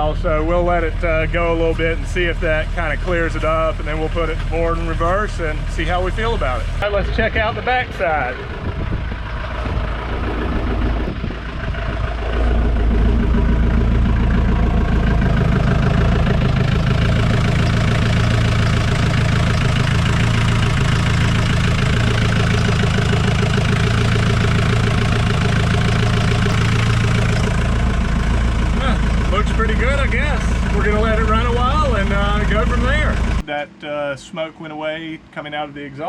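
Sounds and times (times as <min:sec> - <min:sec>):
diesel engine idling: 0:00.0 - 0:33.8.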